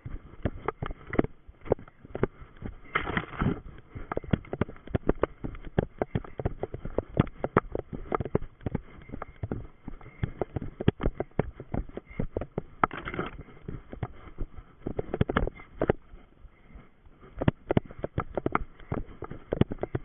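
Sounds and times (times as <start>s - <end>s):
running footsteps on forest floor: 0.0s - 20.0s
twigs and brush rustling: 0.0s - 20.0s.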